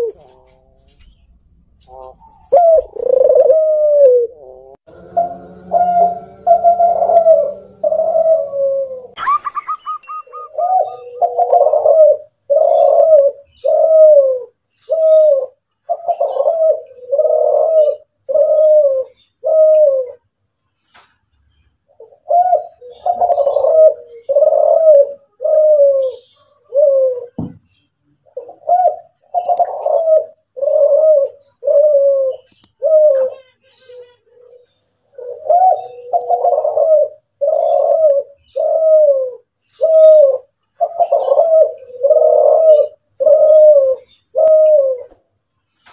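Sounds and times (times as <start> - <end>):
dove cooing: 0.0 - 20.2, 22.0 - 27.5, 28.3 - 45.2.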